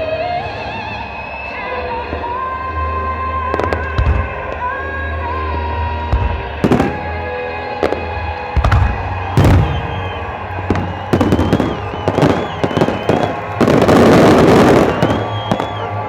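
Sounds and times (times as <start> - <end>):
music from sound system: 0.0 - 7.2, 7.8 - 16.0
fireworks banging: 1.9 - 16.0
fireworks crackling burst: 1.9 - 16.0.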